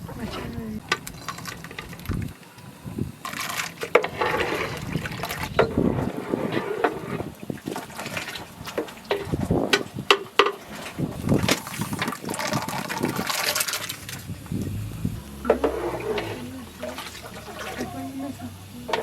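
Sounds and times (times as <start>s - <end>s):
water sloshing in container: 0.0s - 19.0s.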